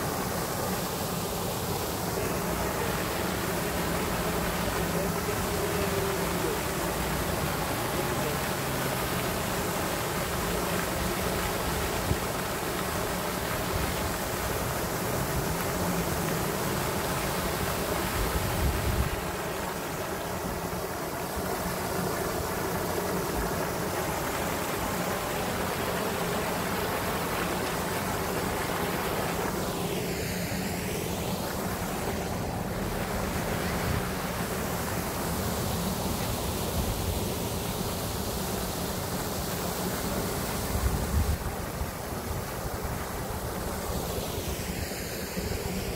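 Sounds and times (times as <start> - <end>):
fountain spray splashing: 0.0 - 45.9.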